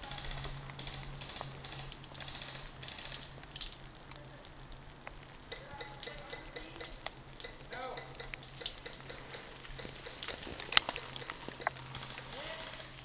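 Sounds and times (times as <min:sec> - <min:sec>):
distant voices calling: 0:00.0 - 0:13.0
faint scattered ticks: 0:00.0 - 0:13.0
low crackling rustle: 0:00.0 - 0:13.0.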